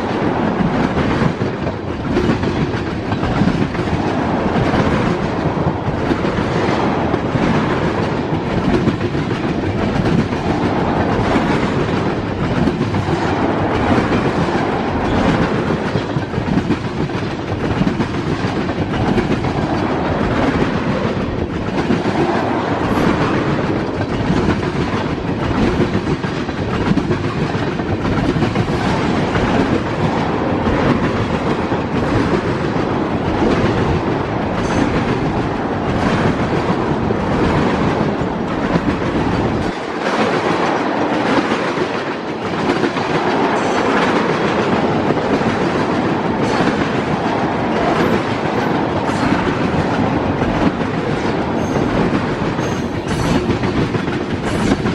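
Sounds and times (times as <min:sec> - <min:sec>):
train rolling past: 0:00.0 - 0:54.9.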